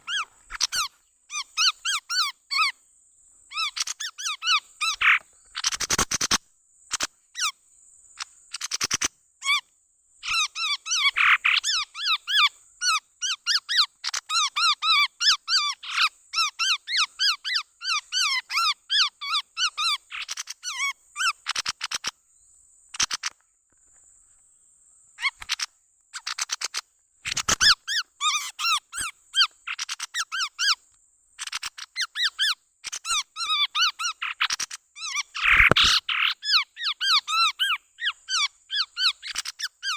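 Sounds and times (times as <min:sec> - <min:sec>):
bird chirping calls: 0:00.0 - 0:02.8, 0:03.5 - 0:07.6, 0:08.2 - 0:23.4, 0:25.2 - 0:39.9.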